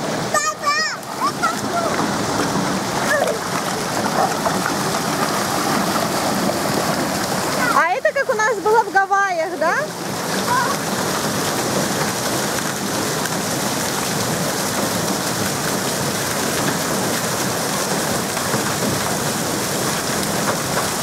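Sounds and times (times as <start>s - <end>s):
falling water spattering: 0.0s - 21.0s.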